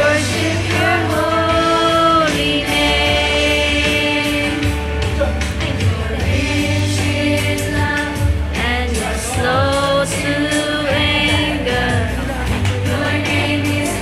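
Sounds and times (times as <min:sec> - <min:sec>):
backing track with beat and bass: 0:00.0 - 0:14.0
children singing gospel song: 0:00.0 - 0:14.0.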